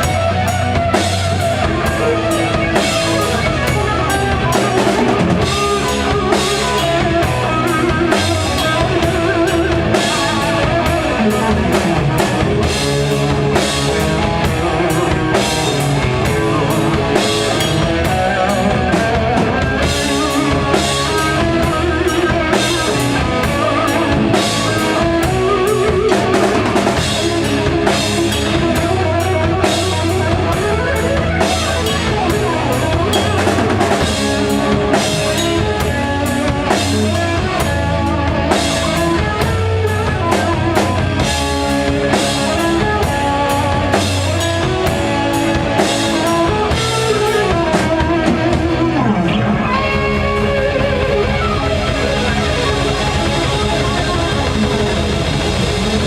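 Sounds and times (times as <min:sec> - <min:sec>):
drum kit beating: 0:00.0 - 0:56.0
electric guitars: 0:00.0 - 0:56.0
rock band playing live: 0:00.0 - 0:56.0.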